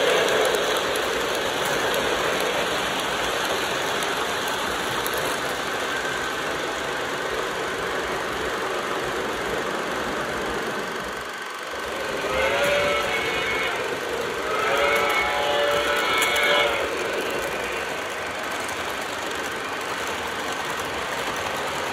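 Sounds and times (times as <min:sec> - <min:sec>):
diesel locomotive running: 0:00.0 - 0:21.9
model train wheels rumbling: 0:00.0 - 0:21.9.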